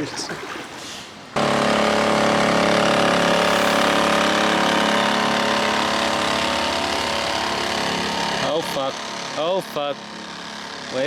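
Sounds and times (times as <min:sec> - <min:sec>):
motorboat engine running: 0:01.4 - 0:11.0.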